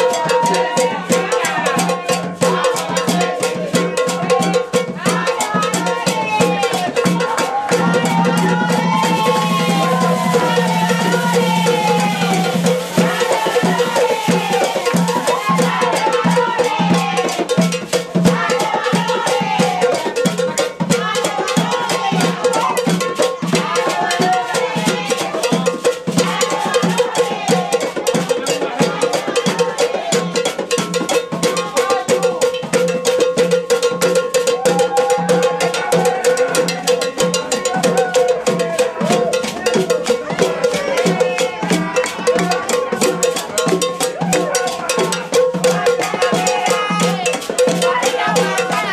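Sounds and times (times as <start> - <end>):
crowd voices: 0.0 - 32.8, 33.9 - 48.9
samba percussion: 0.0 - 48.9.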